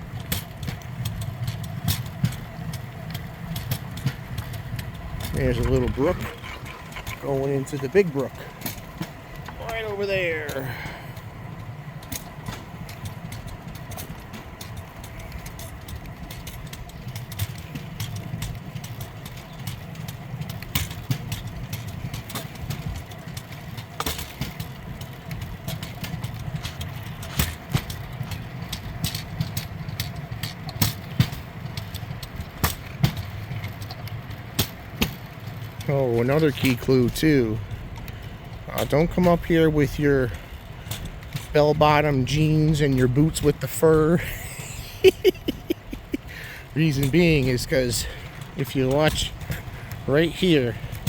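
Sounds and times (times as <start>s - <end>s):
steel wheels rumbling on rails: 0.0s - 51.0s
wheels clicking over rail joints: 0.0s - 51.0s.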